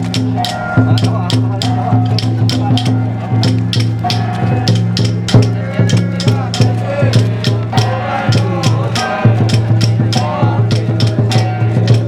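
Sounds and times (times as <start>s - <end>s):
drums and percussion beating: 0.0s - 12.0s
low chanting: 0.0s - 12.0s.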